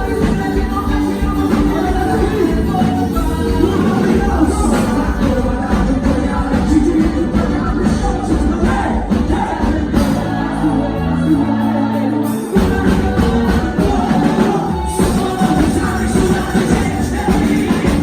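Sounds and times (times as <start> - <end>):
upbeat dance music with singing: 0.0 - 18.0.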